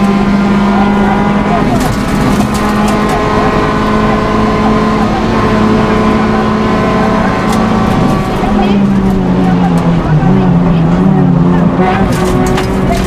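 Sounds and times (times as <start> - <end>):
rally car engine pulling hard: 0.0 - 13.0.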